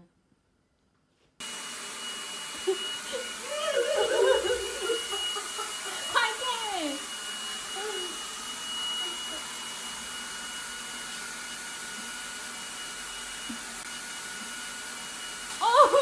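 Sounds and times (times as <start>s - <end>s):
stick vacuum cleaner whining: 1.4s - 16.0s.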